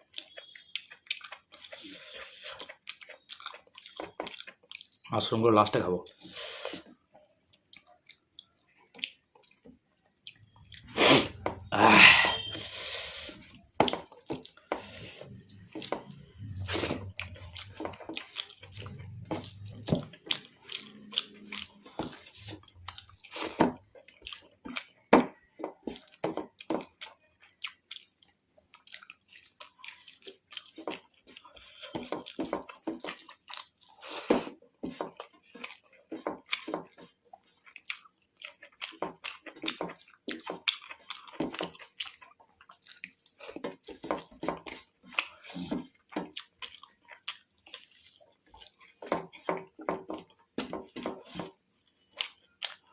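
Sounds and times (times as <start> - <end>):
chewing: 0.0 - 5.1, 6.0 - 11.7, 12.3 - 52.9
wet squelching of food: 0.0 - 52.9.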